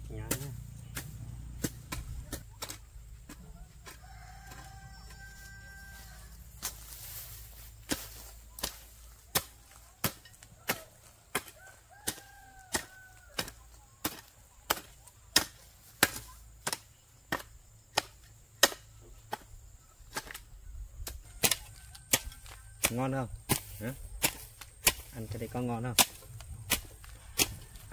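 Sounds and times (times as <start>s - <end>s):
rhythmic chopping with a blade: 0.1s - 4.6s, 7.6s - 20.4s, 21.0s - 27.9s.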